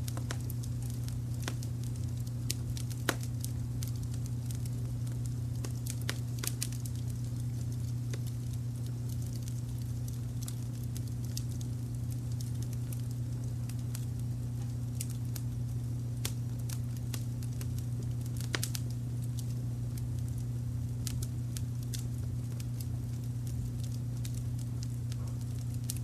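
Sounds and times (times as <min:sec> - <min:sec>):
fire pops: 0:00.0 - 0:26.0
low rumble of brown noise: 0:00.0 - 0:26.0
wood fire crackling: 0:00.0 - 0:26.0.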